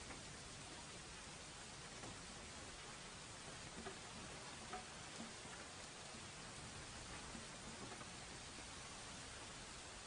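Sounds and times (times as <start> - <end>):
faint ticks: 0.0 - 10.0
white-noise hiss: 0.0 - 10.0.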